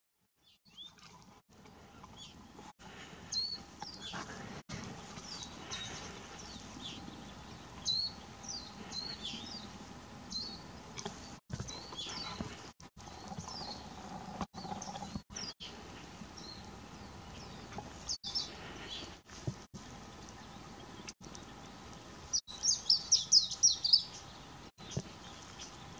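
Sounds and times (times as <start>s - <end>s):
songbirds chirping and whistling: 0.4s - 25.9s.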